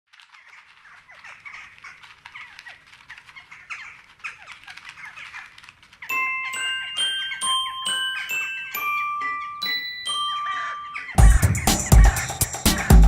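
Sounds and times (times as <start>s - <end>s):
chorus of animal calls: 0.2s - 13.0s.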